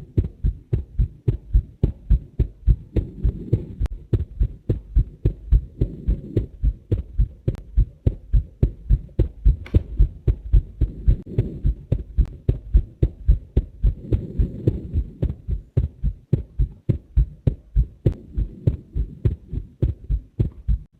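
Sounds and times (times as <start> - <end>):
heartbeat thuds: 0.0 - 20.9
low hum: 0.0 - 20.9.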